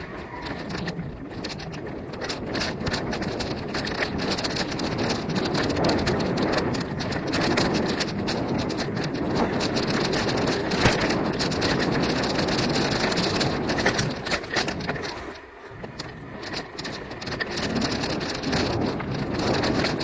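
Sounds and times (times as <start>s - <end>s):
bike rattling over bumps: 0.0s - 20.0s
bike tyres rolling on dirt: 0.0s - 20.0s
wind on microphone: 0.0s - 20.0s.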